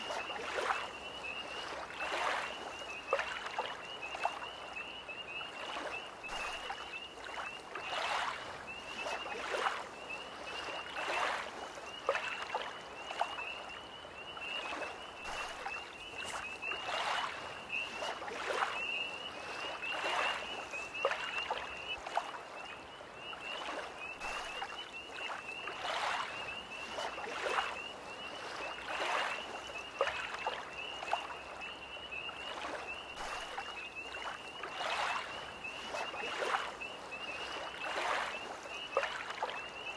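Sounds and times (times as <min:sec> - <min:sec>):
tree frogs trilling: 0:00.0 - 0:39.9
waves lapping against shore: 0:00.0 - 0:39.9.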